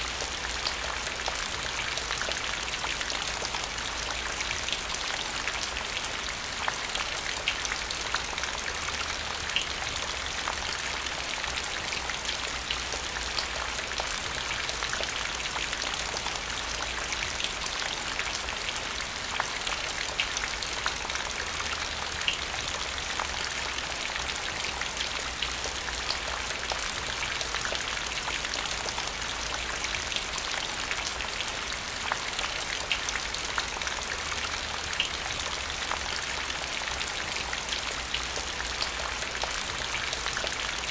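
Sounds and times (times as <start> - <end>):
rain falling on ground: 0.0 - 40.9.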